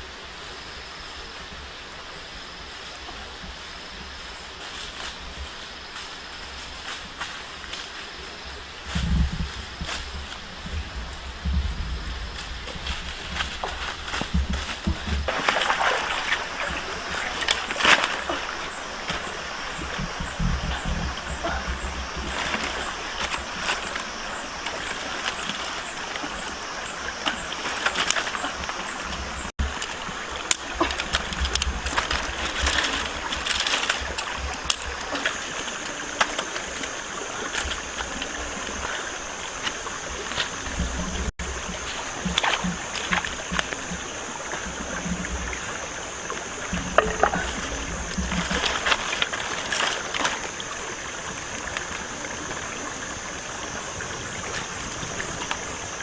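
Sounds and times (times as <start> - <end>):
running water splashing: 3.1 - 56.0.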